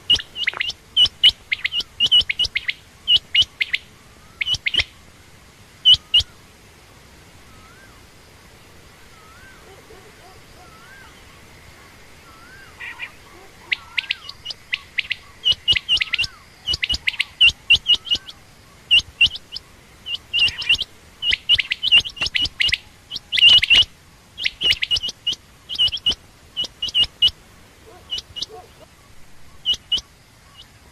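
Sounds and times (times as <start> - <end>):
quail chirping: 0.0 - 5.0, 5.8 - 6.4, 9.0 - 30.9.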